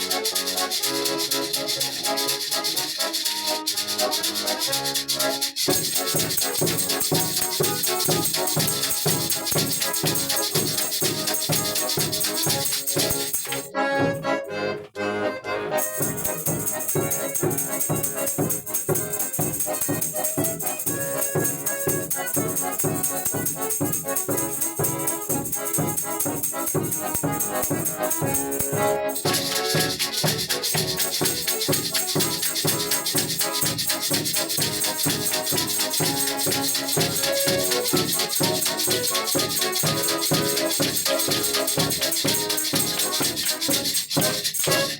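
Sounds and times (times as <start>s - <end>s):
music with rattling percussion beat: 0.0s - 14.4s, 15.7s - 44.9s.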